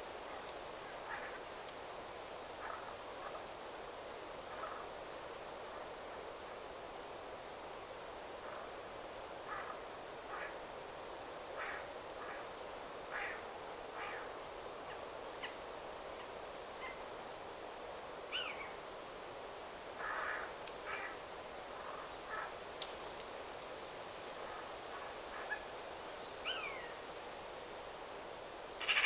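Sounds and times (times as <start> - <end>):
wind through trees: 0.0 - 29.0.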